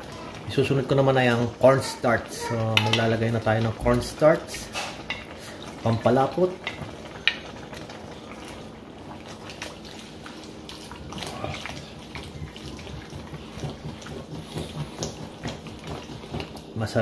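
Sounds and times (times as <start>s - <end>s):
liquid sloshing in a wok: 2.9s - 16.8s.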